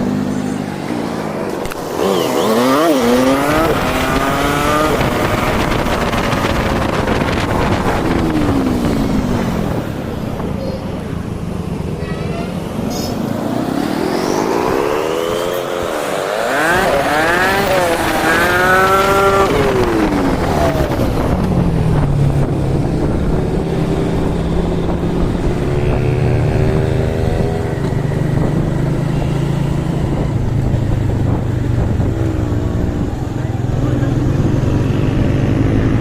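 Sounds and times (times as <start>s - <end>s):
sped-up motorcycle engine revving: 0.0s - 10.4s, 13.2s - 36.0s.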